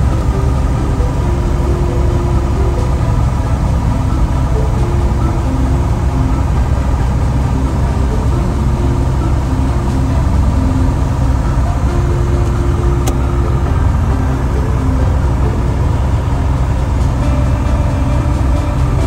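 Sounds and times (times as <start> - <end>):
aircraft engine and propeller: 0.0 - 19.0.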